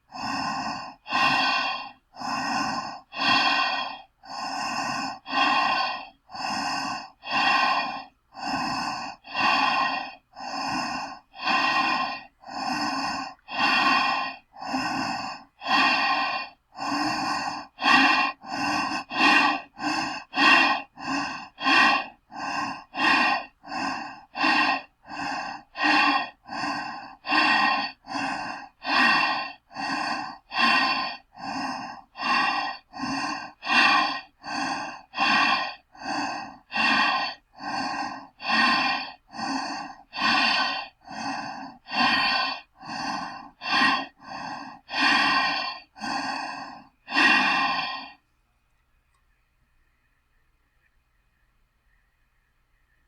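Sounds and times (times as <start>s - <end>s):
breathing through a gas mask: 0.0s - 48.3s.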